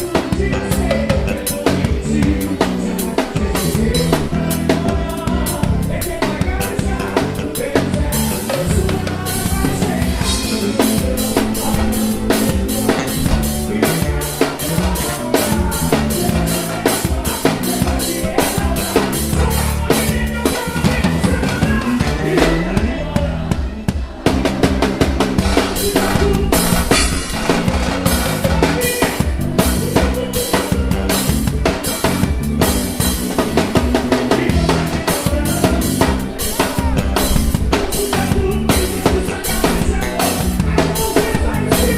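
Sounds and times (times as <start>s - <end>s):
live band music: 0.0s - 41.9s.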